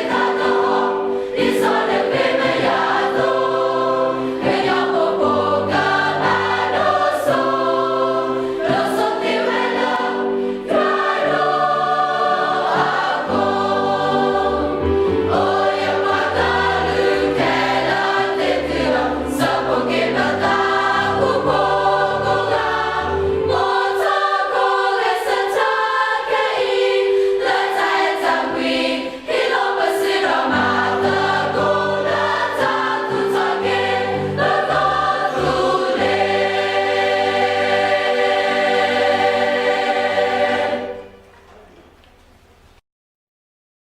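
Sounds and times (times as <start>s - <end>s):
choir singing: 0.0s - 41.6s
low accompanying notes: 0.0s - 42.4s.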